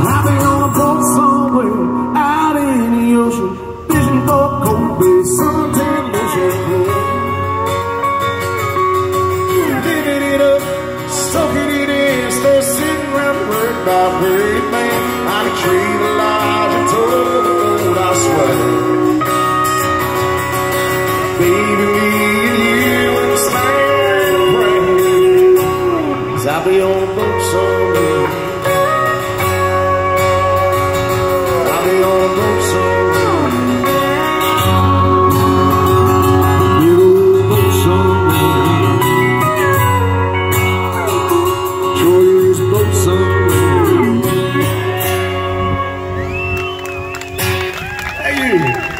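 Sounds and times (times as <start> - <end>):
acoustic guitar strumming: 0.0 - 48.9
live country band music: 0.0 - 48.9
steel guitar sliding: 5.4 - 46.5.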